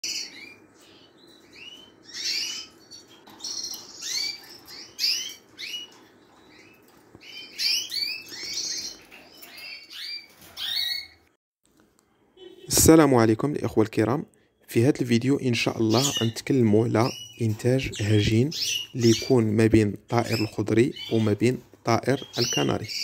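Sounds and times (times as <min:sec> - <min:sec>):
birds chirping: 0:00.0 - 0:11.4, 0:12.4 - 0:23.0.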